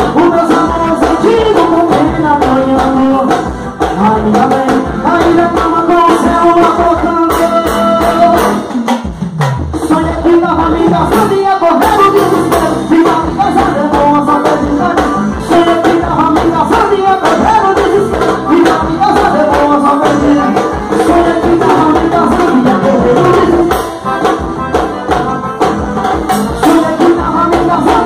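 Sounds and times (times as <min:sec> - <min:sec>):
man singing into microphone: 0:00.0 - 0:08.9, 0:09.8 - 0:24.2, 0:26.3 - 0:28.0
keyboard: 0:00.0 - 0:28.0
steady drum beat: 0:00.0 - 0:28.0.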